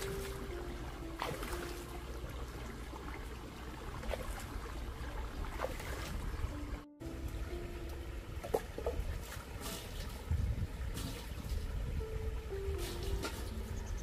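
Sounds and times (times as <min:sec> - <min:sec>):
water trickling and splashing: 0:00.0 - 0:14.0.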